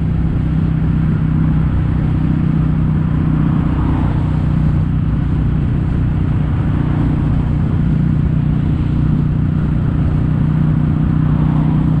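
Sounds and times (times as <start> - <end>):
motorcycle exhaust at steady cruise: 0.0 - 12.0.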